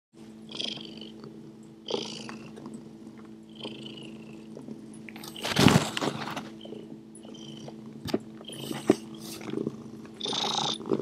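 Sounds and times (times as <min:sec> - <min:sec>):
cat purring: 0:00.5 - 0:11.0.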